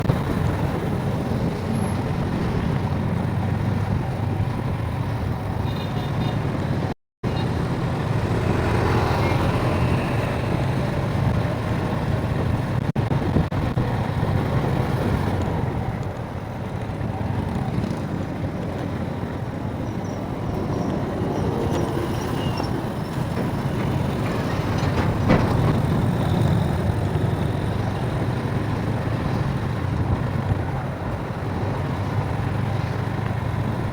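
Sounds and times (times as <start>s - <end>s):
traffic rumble of engines and tyres: 0.0s - 33.9s.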